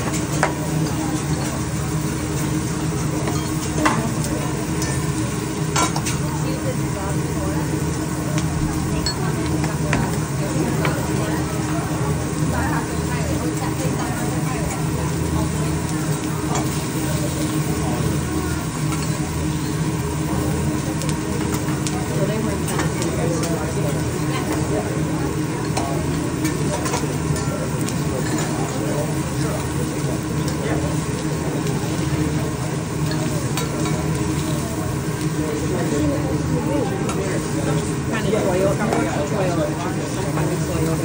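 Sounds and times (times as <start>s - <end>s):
food sizzling on griddle: 0.0s - 41.0s
murmur of voices: 0.0s - 41.0s.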